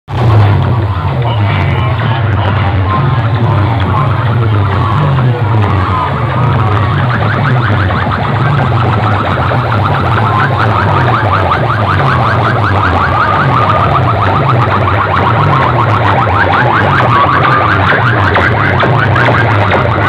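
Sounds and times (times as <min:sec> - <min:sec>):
heavy pulsing bass: 0:00.0 - 0:20.0
siren-like sweeping effect: 0:00.1 - 0:20.0.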